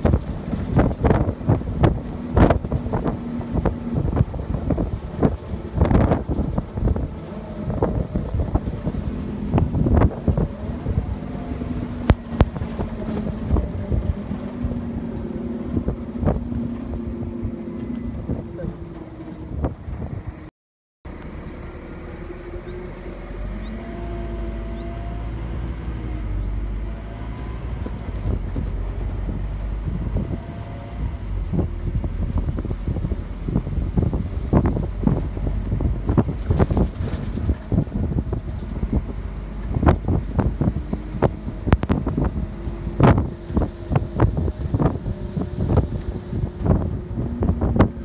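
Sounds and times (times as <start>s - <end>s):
bus diesel engine rumbling: 0.0s - 20.5s, 21.1s - 48.0s
wind buffeting microphone: 0.0s - 20.5s, 22.2s - 48.0s.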